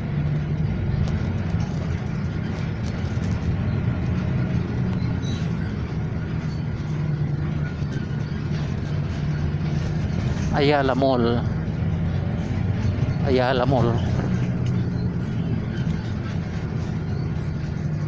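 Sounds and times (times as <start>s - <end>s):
bus engine rumble: 0.0s - 18.0s
road and tyre noise: 0.0s - 18.0s.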